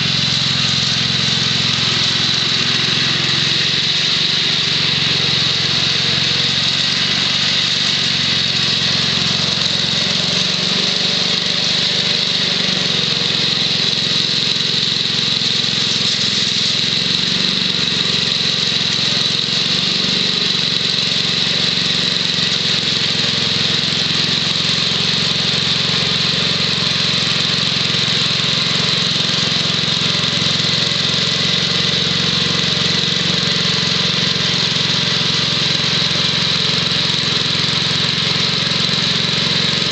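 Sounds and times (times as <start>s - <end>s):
small engine running steadily: 0.0s - 39.9s
snowthrower through snow: 0.0s - 39.9s.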